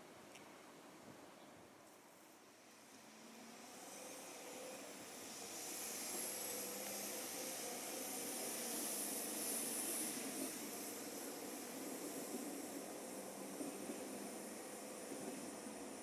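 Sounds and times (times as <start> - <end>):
train running noise: 2.5 - 16.0.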